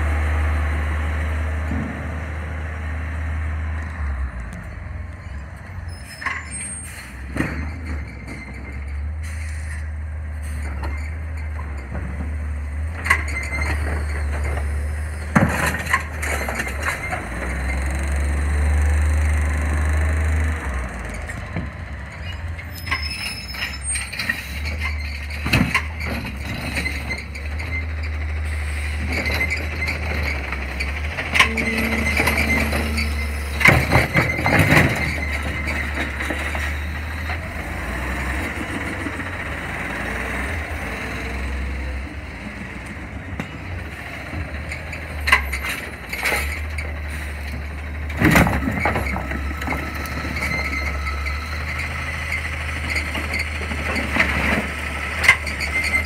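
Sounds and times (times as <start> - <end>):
truck engine and hydraulic drone: 0.0 - 56.0.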